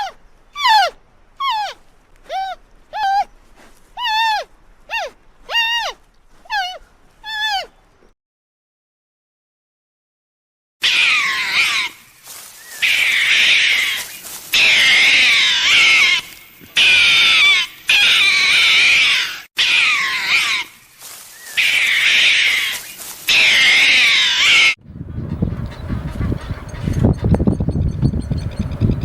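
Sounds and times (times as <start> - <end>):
animals calling in wavering cries: 0.0 - 3.4, 4.0 - 7.8, 10.8 - 29.0.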